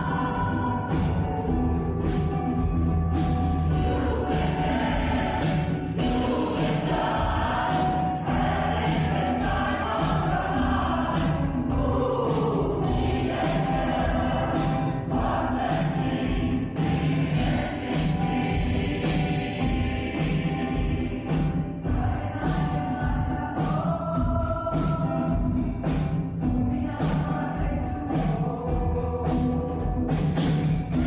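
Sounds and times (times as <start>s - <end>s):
choir singing: 0.0s - 25.7s, 26.6s - 29.8s
instrumental accompaniment: 0.0s - 31.0s
jingling percussion beat: 0.0s - 31.0s.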